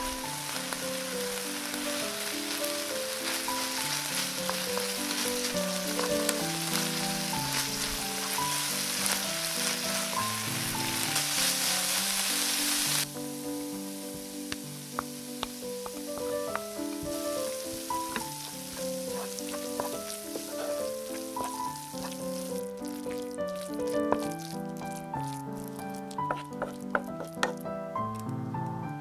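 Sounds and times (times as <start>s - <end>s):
wooden spatula stirring: 0.0s - 13.1s, 14.9s - 28.2s
food sizzling in a frying pan: 0.0s - 27.8s
background music melody: 0.0s - 29.0s.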